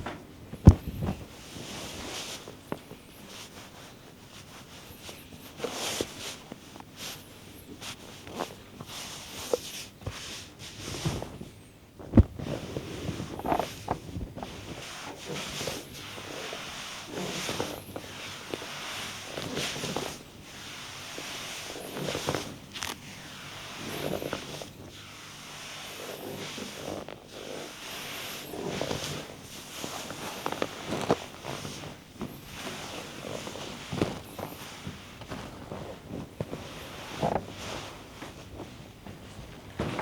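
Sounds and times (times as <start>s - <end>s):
hands rubbing skin and cloth: 0.0s - 40.0s.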